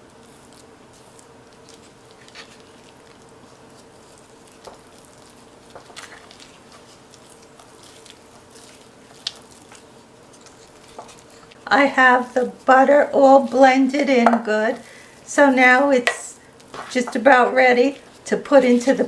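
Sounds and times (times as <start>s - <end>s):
dough squishing: 0.0s - 19.0s.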